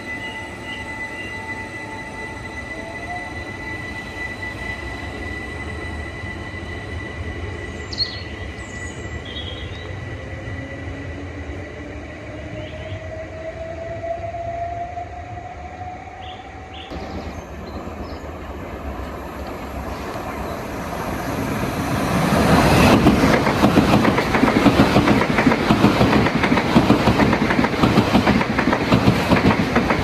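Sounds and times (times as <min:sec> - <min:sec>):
train rumbling on rails: 0:00.0 - 0:30.0.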